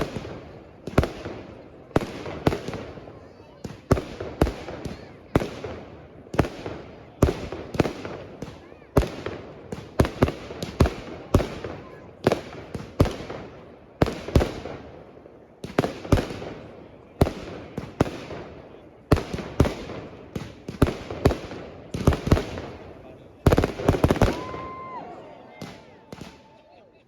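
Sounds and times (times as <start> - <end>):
fireworks bangs: 0.0 - 26.6.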